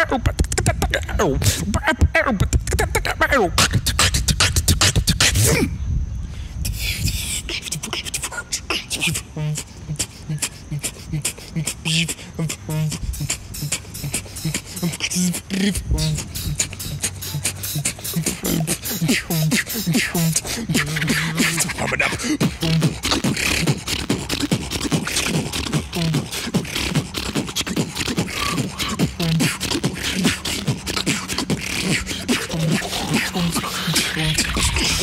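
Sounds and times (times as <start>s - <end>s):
vocal beatboxing: 0.0s - 5.7s, 6.6s - 35.0s.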